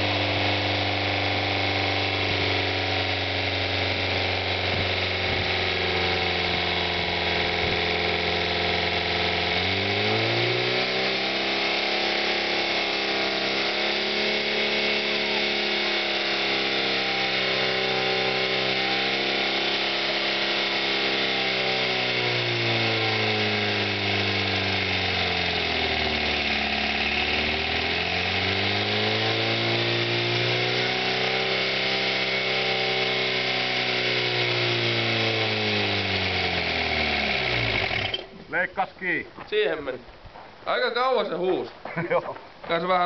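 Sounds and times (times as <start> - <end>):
car engine screaming at high revs: 0.0 - 38.4.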